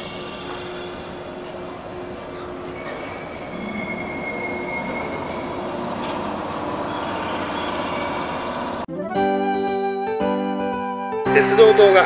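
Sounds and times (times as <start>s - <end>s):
electric train rolling rumble: 0.0s - 12.0s.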